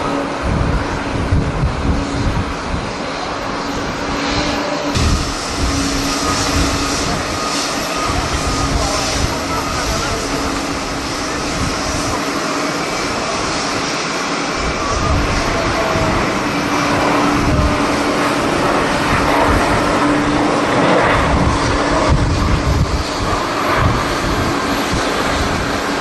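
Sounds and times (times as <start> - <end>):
jet engines humming: 0.0 - 26.0
wind gusting on microphone: 0.0 - 26.0.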